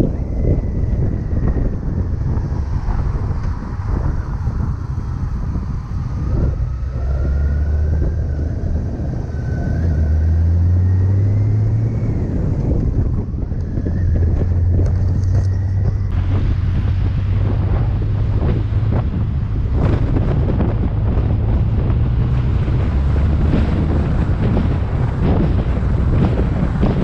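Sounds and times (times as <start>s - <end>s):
motorcycle engine drone: 0.0s - 27.0s
wind noise on microphone: 0.0s - 27.0s.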